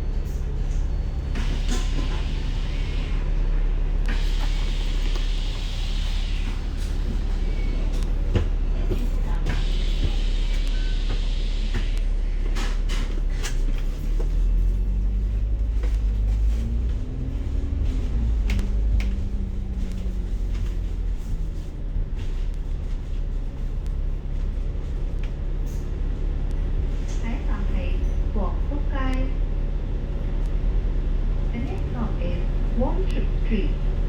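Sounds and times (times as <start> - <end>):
bus engine rumble: 0.0 - 34.0.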